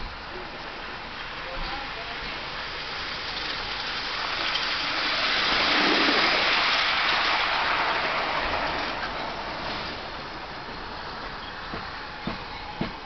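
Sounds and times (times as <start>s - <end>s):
model train rumbling on rails: 0.0s - 13.0s.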